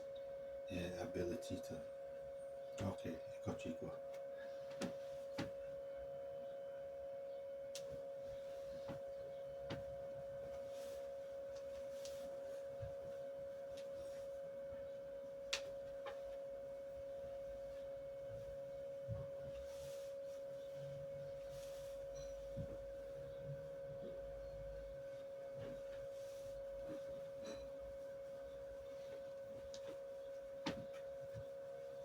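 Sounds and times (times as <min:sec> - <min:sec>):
steady single-pitched hum: 0:00.0 - 0:32.0.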